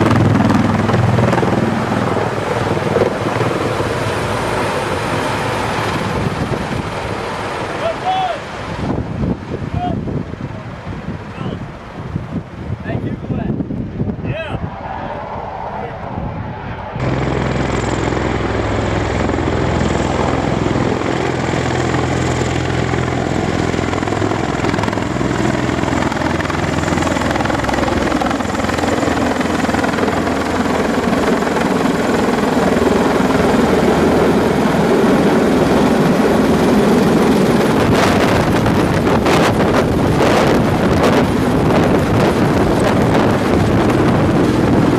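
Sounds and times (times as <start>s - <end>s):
aircraft rotors droning overhead: 0.0s - 44.9s
rotor wash buffeting microphone: 0.0s - 44.9s.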